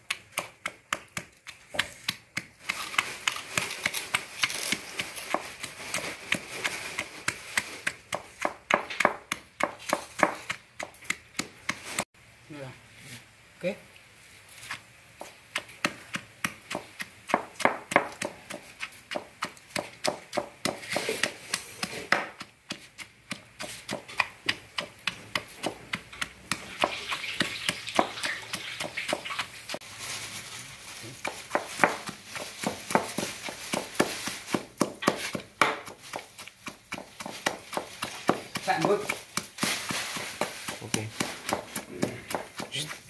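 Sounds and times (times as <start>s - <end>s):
pestle pounding in a stone mortar: 0.0s - 12.0s, 15.2s - 29.8s, 31.2s - 43.0s.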